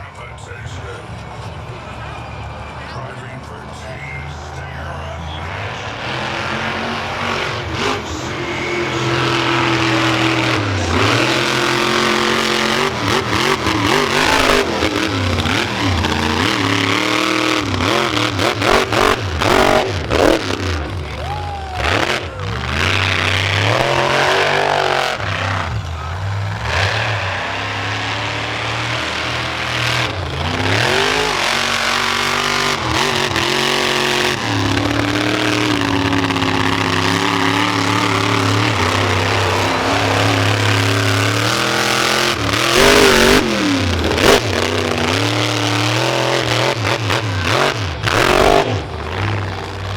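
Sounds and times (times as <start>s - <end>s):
monster truck engine revving: 0.0s - 49.9s.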